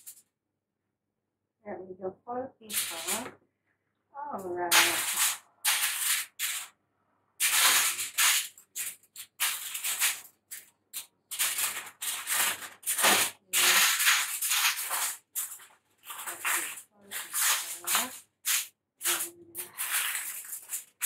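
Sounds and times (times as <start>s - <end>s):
aluminium foil crinkling: 0.0s - 0.2s, 2.6s - 3.3s, 4.4s - 6.7s, 7.4s - 21.0s.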